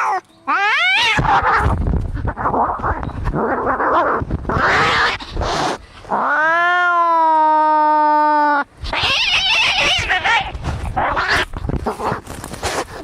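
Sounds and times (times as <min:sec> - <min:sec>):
cat yowling: 0:00.0 - 0:01.7, 0:02.3 - 0:11.5
cats screeching: 0:00.0 - 0:12.2.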